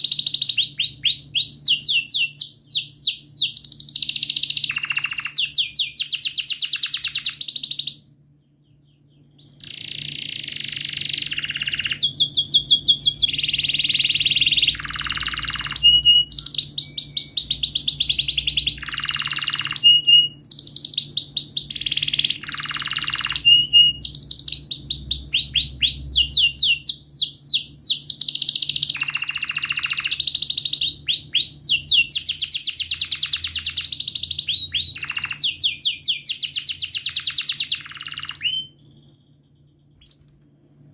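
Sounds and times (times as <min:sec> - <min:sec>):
canary singing trills: 0:00.0 - 0:40.4.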